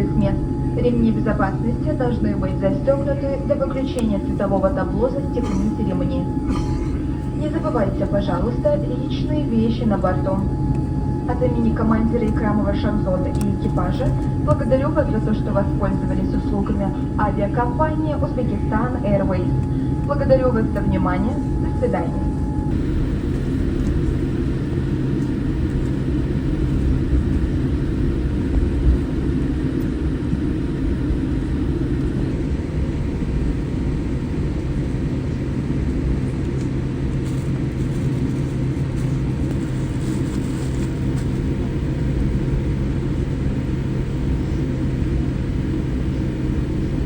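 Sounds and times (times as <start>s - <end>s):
airliner cabin rumble: 0.0s - 47.0s
low hum: 0.0s - 47.0s.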